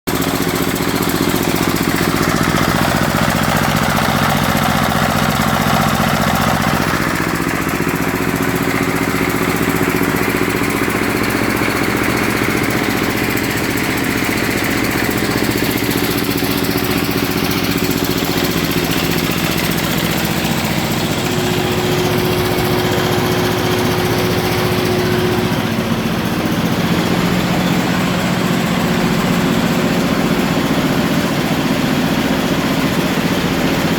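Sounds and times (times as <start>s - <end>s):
rice mill engine humming: 0.1s - 33.9s.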